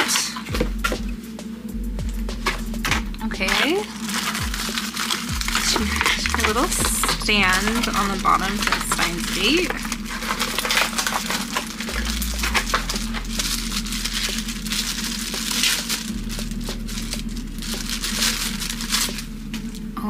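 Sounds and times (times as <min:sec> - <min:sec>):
plastic packaging crinkling: 0:02.4 - 0:19.9.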